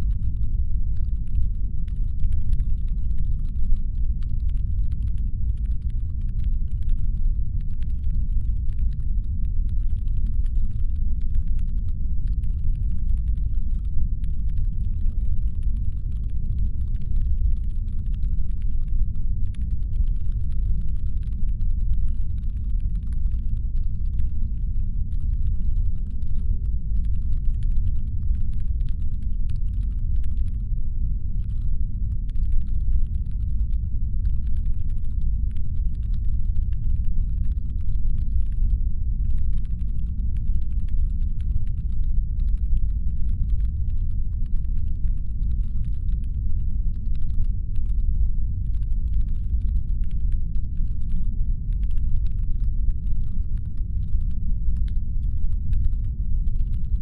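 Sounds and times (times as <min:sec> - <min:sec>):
faint irregular clicking: 0:00.0 - 0:57.0.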